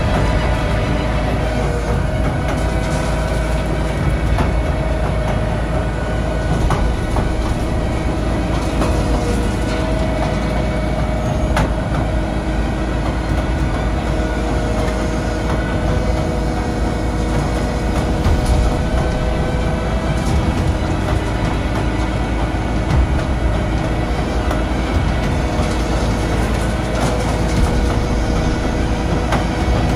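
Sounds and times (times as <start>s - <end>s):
mechanical whine: 0.0s - 29.9s
sharp knocks: 0.0s - 29.9s
wood chipper drone: 0.0s - 29.9s.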